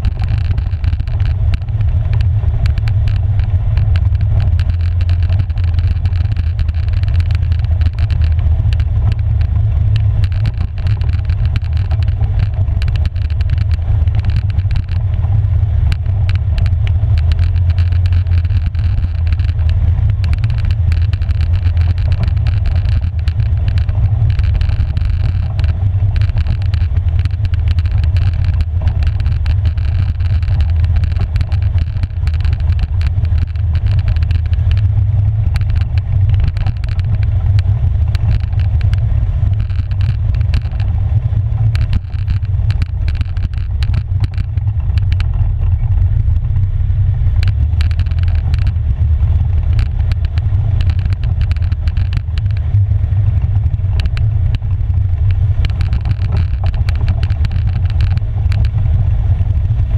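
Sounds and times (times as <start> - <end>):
clicks and rattles over rocks: 0.0 - 59.9
quad engine rumbling: 0.0 - 59.9.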